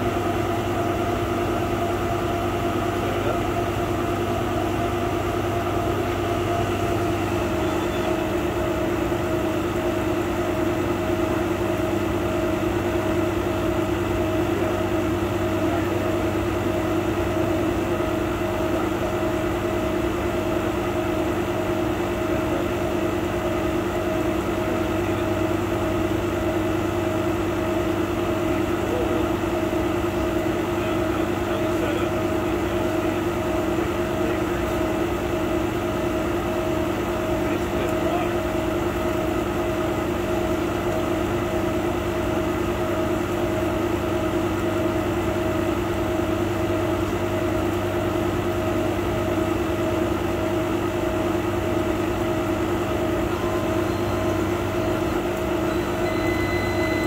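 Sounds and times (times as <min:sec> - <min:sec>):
laser cutter humming: 0:00.0 - 0:57.0.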